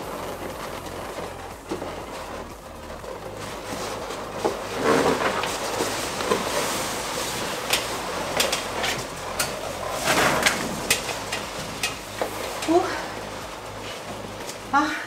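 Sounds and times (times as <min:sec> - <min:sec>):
balloons rubbing and rustling: 0:00.0 - 0:15.0.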